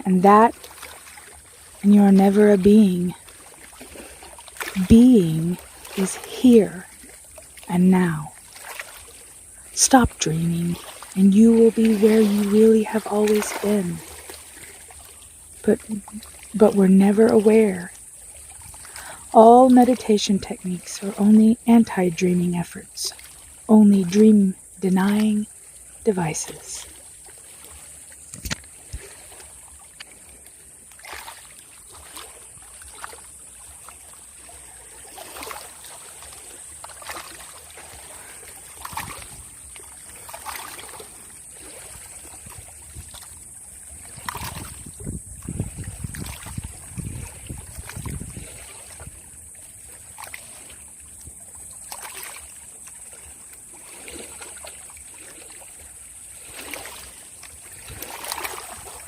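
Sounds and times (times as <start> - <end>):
small waves lapping: 0.0 - 59.0.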